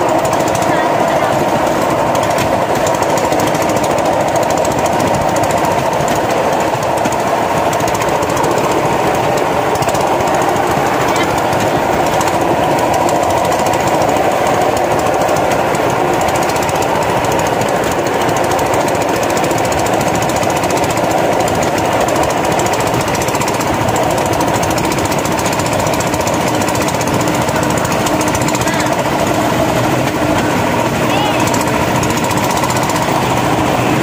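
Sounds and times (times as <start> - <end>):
rail cart rattling on track: 0.0 - 34.0.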